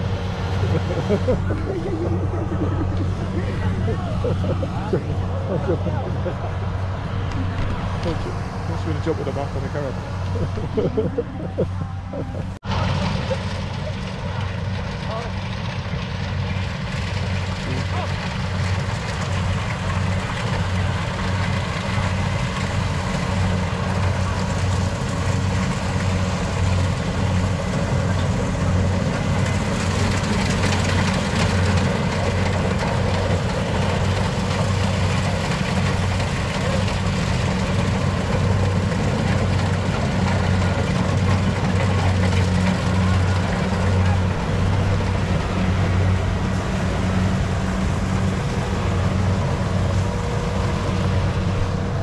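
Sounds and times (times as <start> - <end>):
engine droning steadily: 0.0 - 52.0.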